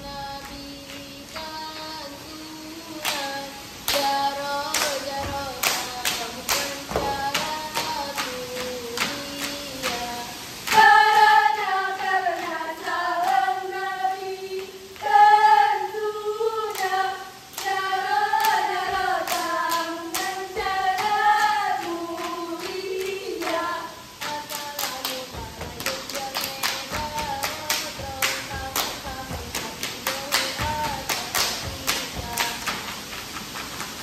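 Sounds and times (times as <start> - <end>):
woman singing: 0.0 - 33.2
rhythmic hand claps: 0.0 - 34.0.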